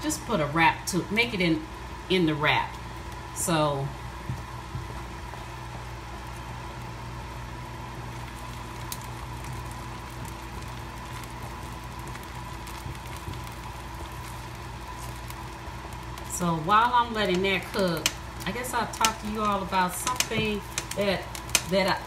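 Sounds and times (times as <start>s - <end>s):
steady hum: 0.0s - 22.0s
omelet sizzling in a skillet: 4.0s - 22.0s.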